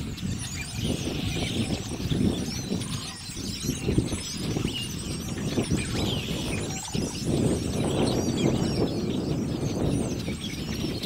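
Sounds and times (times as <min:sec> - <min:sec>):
flock of blackbirds chirping: 0:00.0 - 0:11.0.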